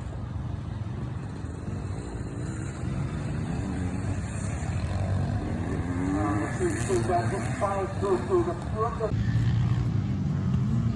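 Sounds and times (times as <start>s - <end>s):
motorcycle engines revving: 0.0s - 10.9s.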